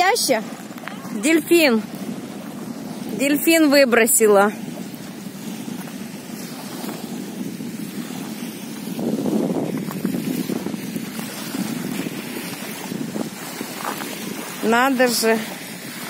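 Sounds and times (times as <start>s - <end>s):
small waves washing onto beach: 0.0s - 16.0s
wind on microphone: 0.0s - 16.0s.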